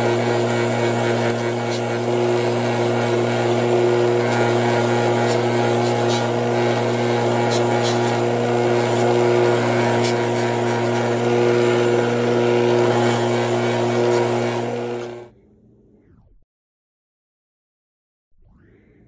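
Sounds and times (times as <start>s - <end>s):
bench grinder motor hum: 0.0s - 15.3s
workpiece hissing against grinding wheel: 0.0s - 15.3s.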